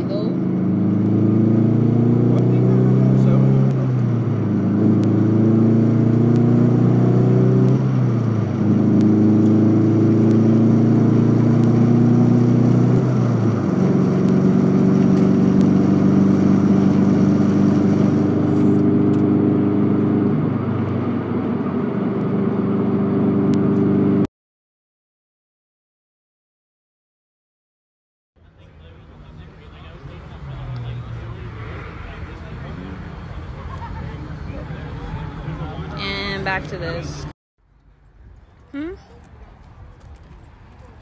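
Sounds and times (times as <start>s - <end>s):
car engine running: 0.0s - 24.3s, 28.4s - 38.0s.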